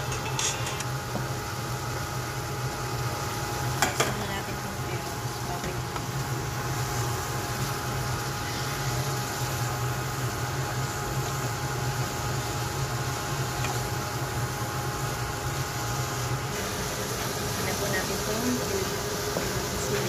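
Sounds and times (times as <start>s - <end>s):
food sizzling in a pan: 0.0s - 20.0s
low machine hum: 0.0s - 20.0s.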